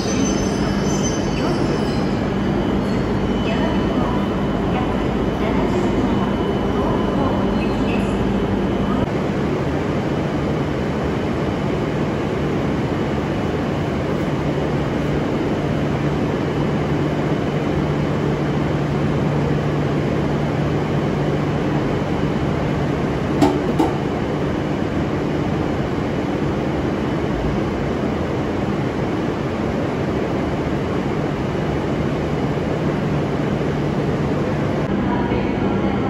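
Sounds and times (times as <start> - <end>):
train equipment hum and whir: 0.0 - 36.0.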